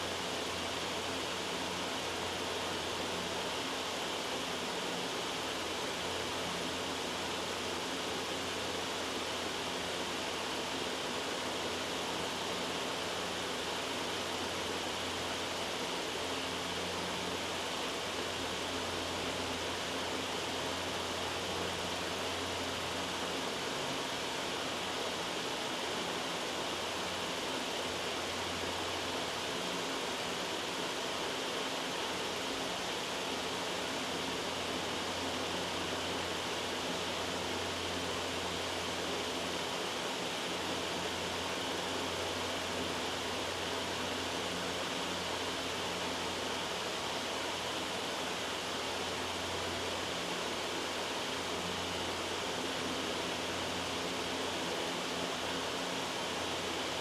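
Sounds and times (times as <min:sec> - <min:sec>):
loud white noise hiss: 0:00.0 - 0:57.0.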